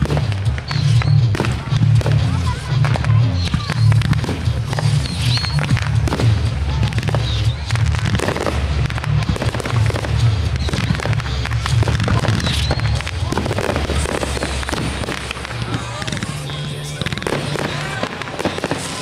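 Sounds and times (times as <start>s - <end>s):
fireworks bangs and crackles: 0.0s - 19.0s
music with heavy bass: 0.0s - 19.0s.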